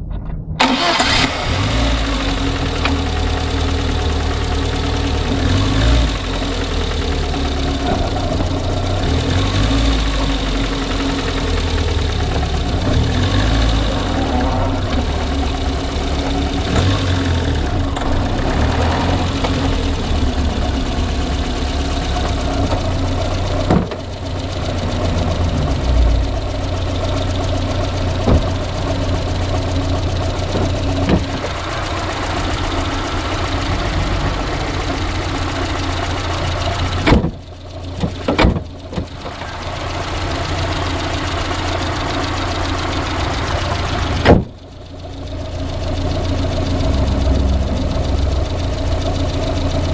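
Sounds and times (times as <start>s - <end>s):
car engine idling with knock: 2.3s - 49.9s.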